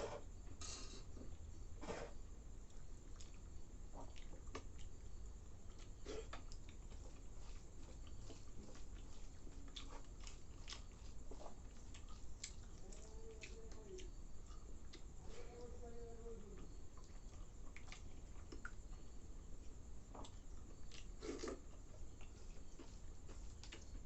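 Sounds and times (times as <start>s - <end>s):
low steady hum: 0.0s - 24.0s
mouth chewing smacking: 2.7s - 15.8s, 16.4s - 24.0s.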